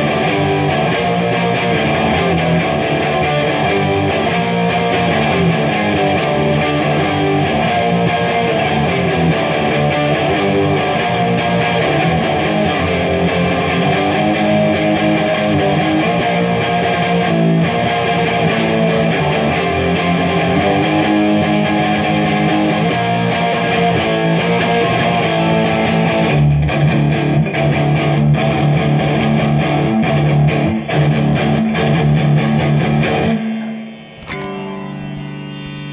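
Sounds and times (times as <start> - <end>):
electric guitar playing: 0.0 - 35.9.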